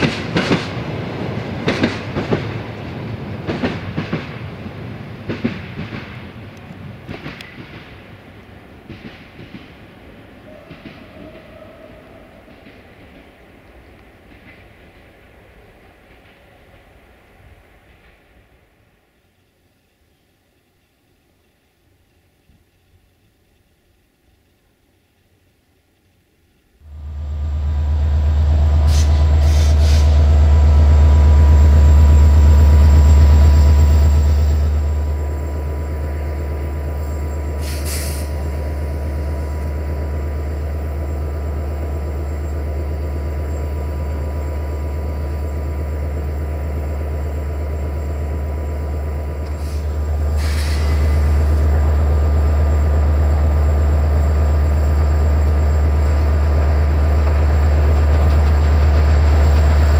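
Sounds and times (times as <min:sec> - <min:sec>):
train clanks: 0:00.0 - 0:19.1, 0:27.0 - 0:59.9
passenger train rumbling past: 0:00.0 - 0:22.2, 0:26.8 - 0:59.9.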